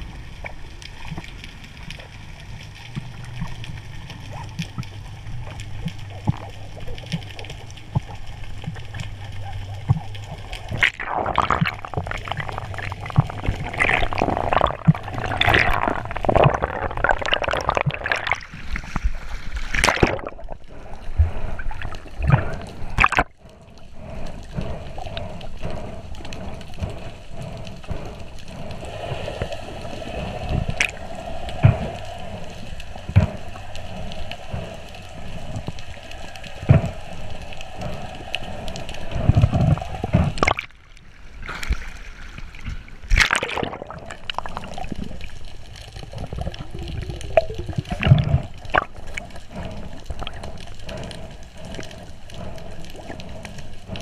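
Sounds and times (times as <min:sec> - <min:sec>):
faint steady hum: 0:00.0 - 0:54.0
muffled underwater gurgling: 0:02.0 - 0:40.9, 0:43.1 - 0:54.0.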